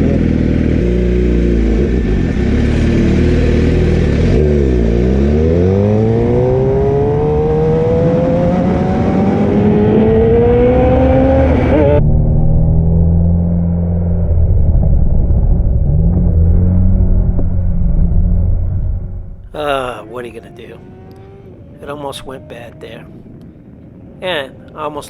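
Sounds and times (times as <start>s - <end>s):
motorcycle engine accelerating: 0.0s - 24.6s.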